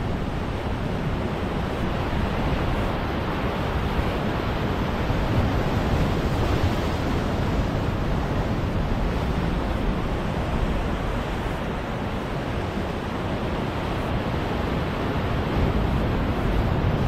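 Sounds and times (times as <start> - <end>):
wind rumble on microphone: 0.0 - 17.0
ocean surf washing against rocks: 0.1 - 17.0.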